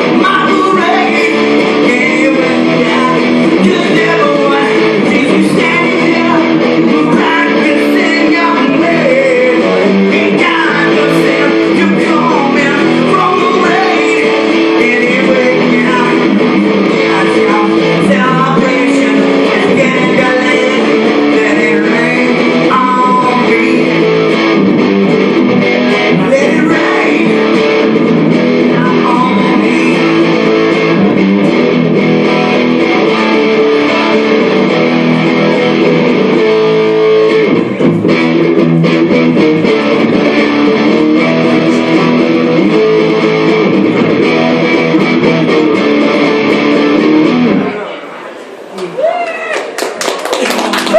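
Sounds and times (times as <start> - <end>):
guitar-led music: 0.0 - 47.9.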